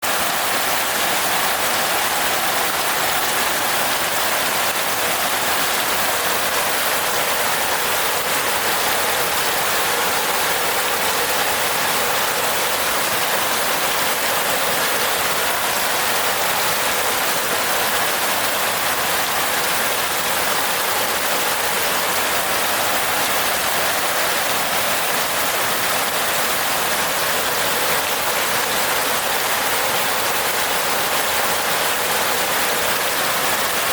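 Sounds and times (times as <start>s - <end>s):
rain falling on a roof: 0.0s - 33.9s.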